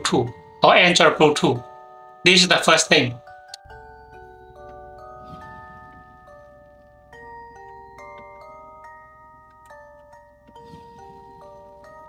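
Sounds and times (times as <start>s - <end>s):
soft background music chords: 0.0s - 12.0s.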